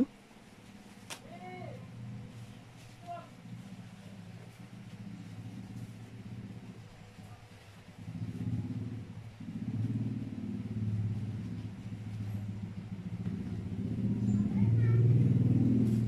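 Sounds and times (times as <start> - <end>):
engine droning: 1.2 - 16.0.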